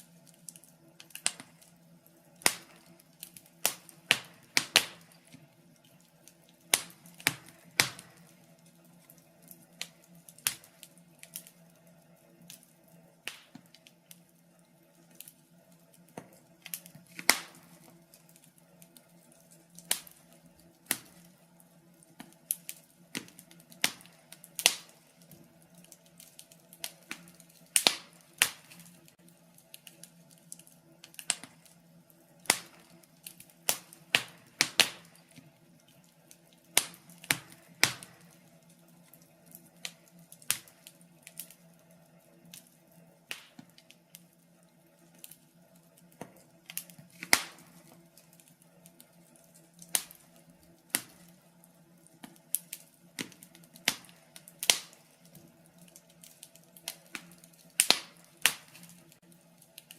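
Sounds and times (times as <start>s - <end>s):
logs crackling and popping in fire: 0.0s - 59.9s.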